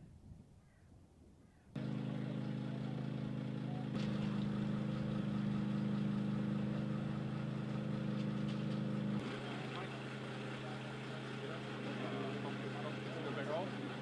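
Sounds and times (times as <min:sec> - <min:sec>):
diesel engine idling: 0:01.8 - 0:14.0.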